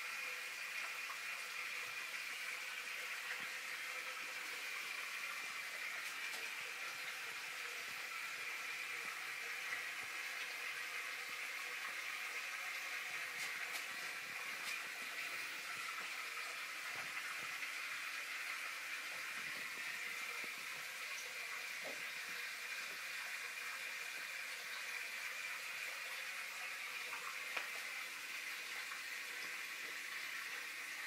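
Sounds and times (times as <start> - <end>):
aquarium water bubbling: 0.0 - 31.0.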